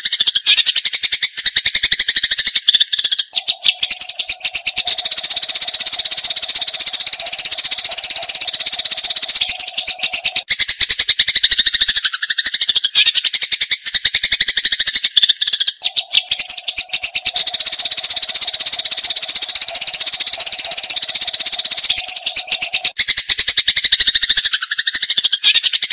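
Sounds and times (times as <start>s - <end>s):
sparrows chattering: 0.0s - 25.9s.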